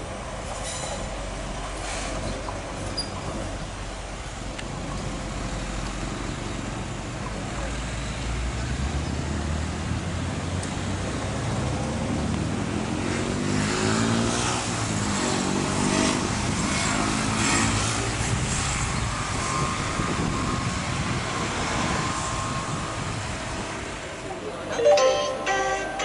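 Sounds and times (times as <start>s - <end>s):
railcar diesel engines: 0.0s - 13.3s, 17.9s - 26.0s.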